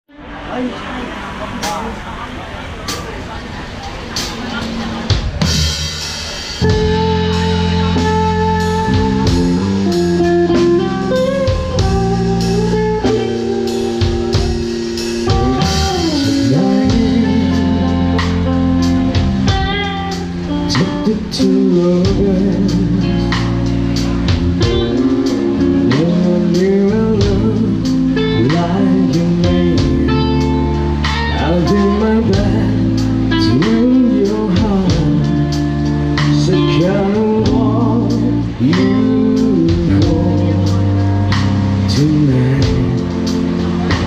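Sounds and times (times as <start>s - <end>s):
band music: 0.1s - 44.0s
electric guitar with bending notes: 0.1s - 44.0s
drum kit beat: 0.8s - 44.0s.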